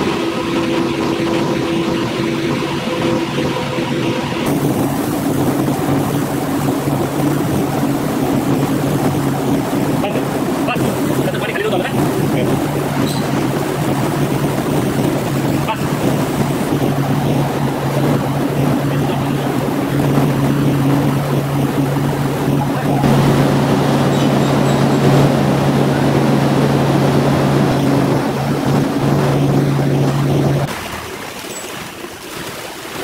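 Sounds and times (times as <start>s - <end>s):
sprayer motor humming: 0.0s - 30.7s.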